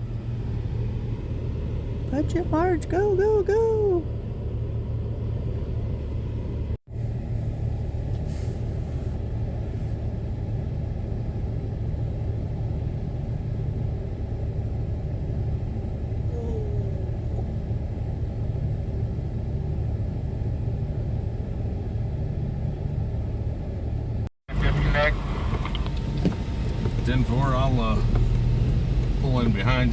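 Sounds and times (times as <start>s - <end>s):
vehicle engine and tyres rumbling: 0.0s - 29.9s.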